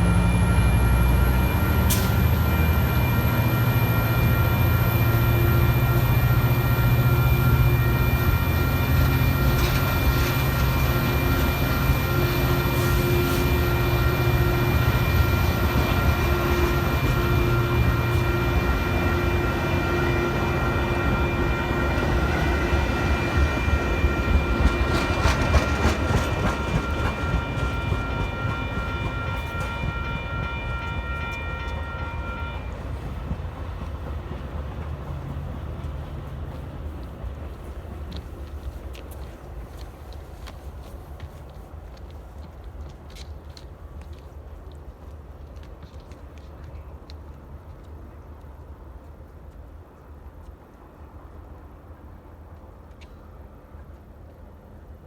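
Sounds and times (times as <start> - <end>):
train wheels clicking: 0.0 - 51.8
train rumbling past: 0.0 - 55.0.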